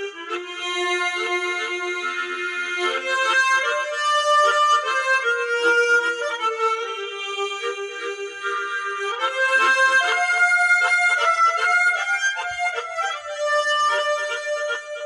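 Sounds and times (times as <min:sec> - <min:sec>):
harmonica melody: 0:00.0 - 0:15.0.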